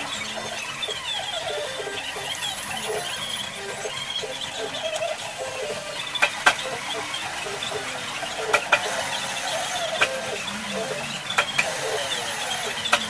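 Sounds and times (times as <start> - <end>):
metal lathe scraping hiss: 0.0 - 13.0
tool squealing on metal: 0.0 - 13.0.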